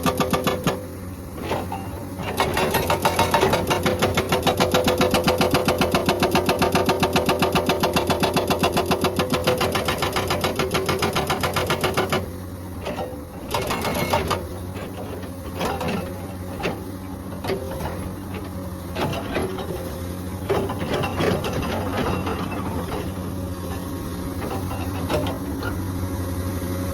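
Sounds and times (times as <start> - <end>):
hydraulic breaker hammering rock: 0.0 - 26.0
excavator engine running: 0.0 - 26.9.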